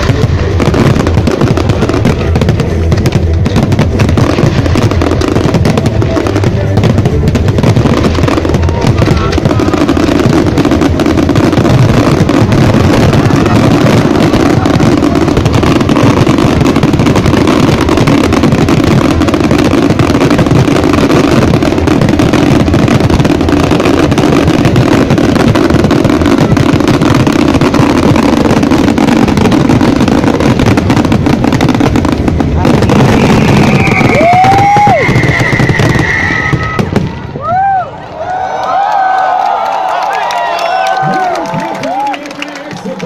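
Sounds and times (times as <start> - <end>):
fireworks booming and crackling: 0.0 - 43.0.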